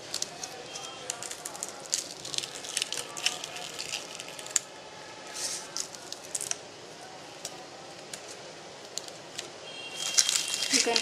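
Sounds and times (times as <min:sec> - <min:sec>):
sticker peeling crackles: 0:00.0 - 0:04.7, 0:05.3 - 0:06.6, 0:07.4 - 0:11.0.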